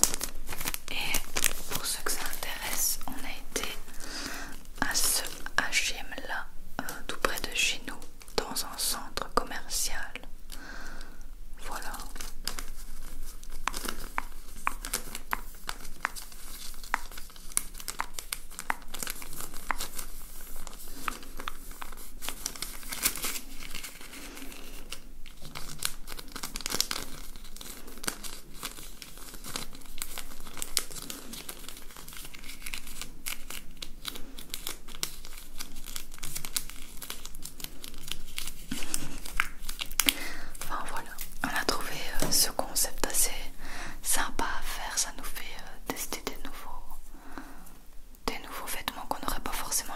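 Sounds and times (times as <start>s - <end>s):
paper receipt crinkling: 0.0s - 6.1s, 11.6s - 46.5s.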